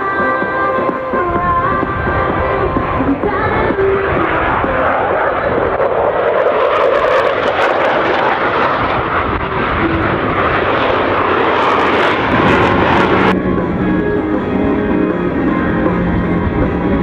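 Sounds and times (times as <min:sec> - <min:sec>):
jet engines flying past: 0:00.0 - 0:17.0.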